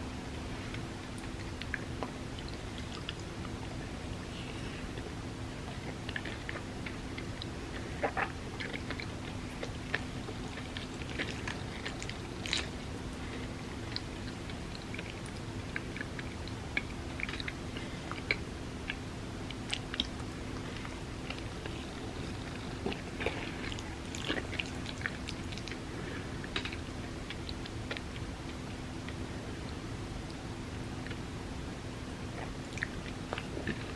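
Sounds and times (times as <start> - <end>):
faint steady hum: 0.0 - 33.9
chewing with wet mouth clicks: 0.7 - 31.2, 32.2 - 33.9.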